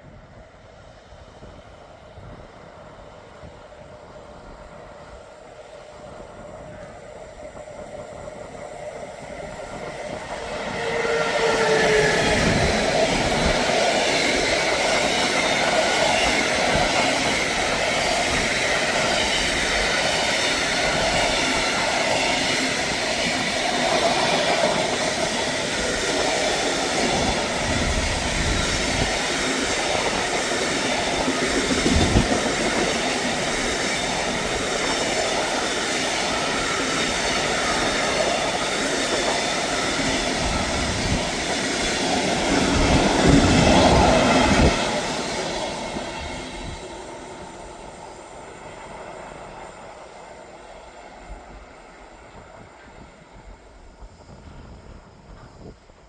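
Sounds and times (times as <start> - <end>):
train wheels rolling and clattering: 5.3 - 50.6.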